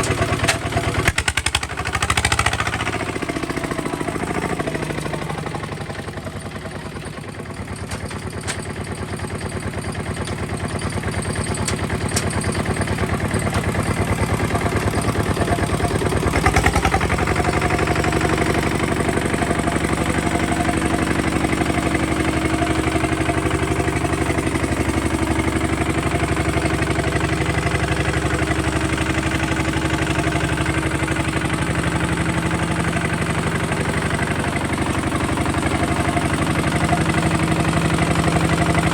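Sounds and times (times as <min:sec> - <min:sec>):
diesel tractor engine knocking: 0:00.0 - 0:38.9.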